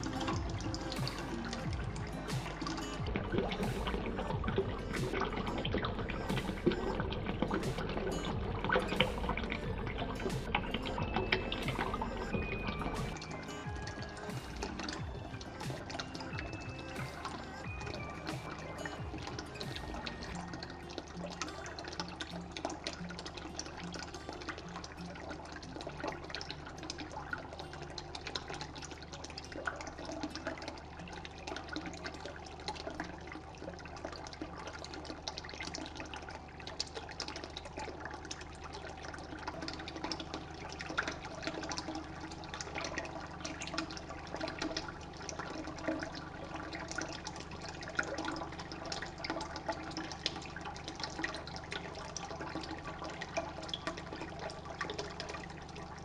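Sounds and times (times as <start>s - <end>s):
fountain water trickling and splashing: 0.0s - 56.0s.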